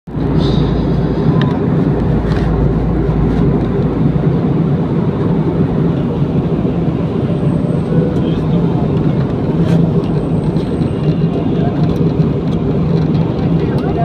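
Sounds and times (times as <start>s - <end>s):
jet engine and airflow cabin drone: 0.1s - 14.0s.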